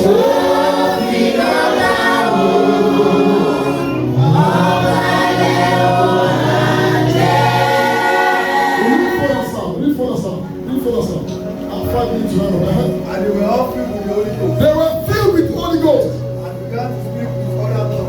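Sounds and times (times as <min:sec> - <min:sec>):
congregation singing gospel: 0:00.0 - 0:18.0.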